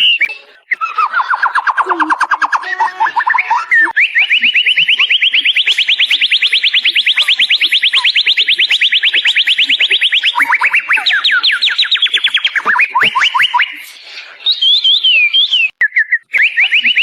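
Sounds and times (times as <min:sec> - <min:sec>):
bird singing whistles and trills: 0:00.0 - 0:17.0.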